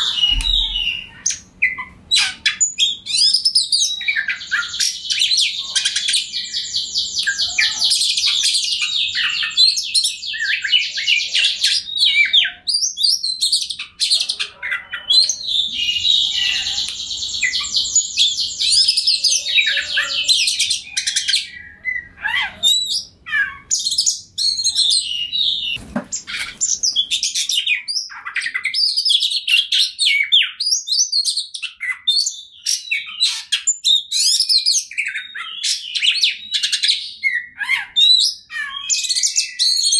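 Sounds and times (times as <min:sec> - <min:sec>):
bird singing with trills: 0:00.0 - 0:39.9.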